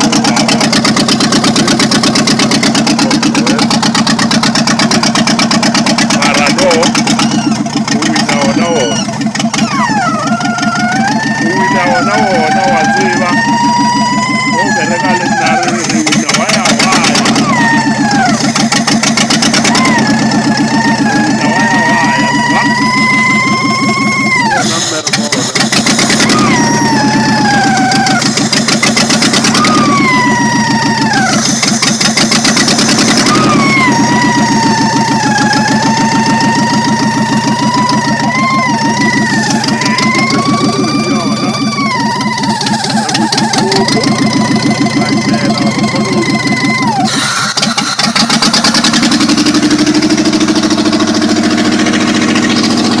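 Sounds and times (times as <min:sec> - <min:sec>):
whine sliding down in pitch: 0:00.0 - 0:24.8, 0:29.2 - 0:31.8, 0:32.6 - 0:53.0
car engine ticking: 0:00.0 - 0:53.0.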